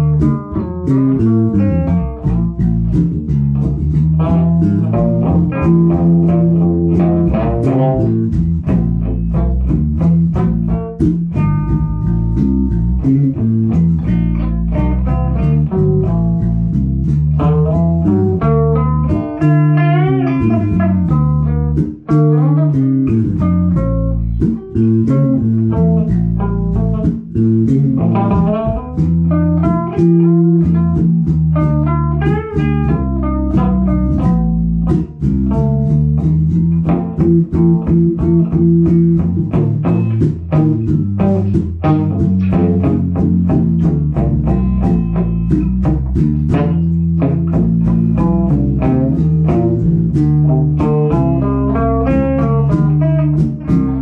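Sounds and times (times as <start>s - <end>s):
bass guitar line: 0.0s - 54.0s
plucked guitar notes: 0.0s - 54.0s.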